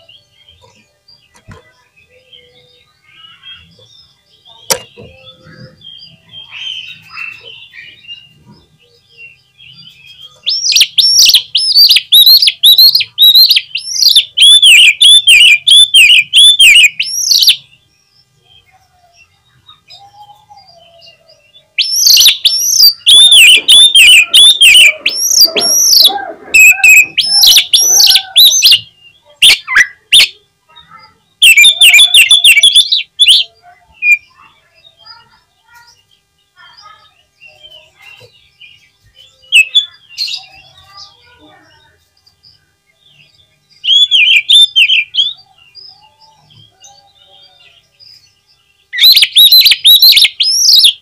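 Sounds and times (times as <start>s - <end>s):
magpie-robin singing: 0.0s - 51.0s.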